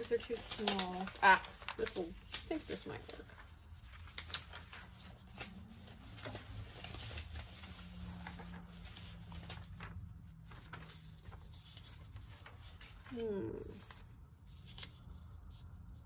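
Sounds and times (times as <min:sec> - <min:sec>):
magazine pages rustling: 0:00.0 - 0:16.0.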